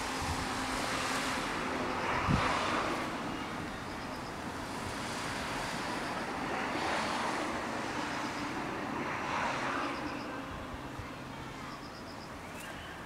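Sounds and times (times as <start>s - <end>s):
traffic rumble and hiss: 0.0s - 13.0s.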